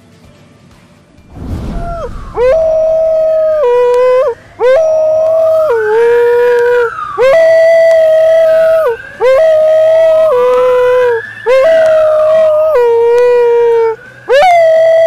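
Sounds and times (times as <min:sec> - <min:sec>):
dog howling: 0:02.3 - 0:15.0.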